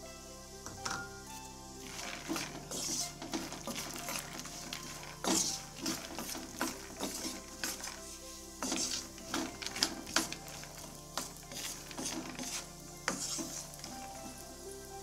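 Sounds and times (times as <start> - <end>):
spatula scraping nuts in pan: 1.3 - 14.7.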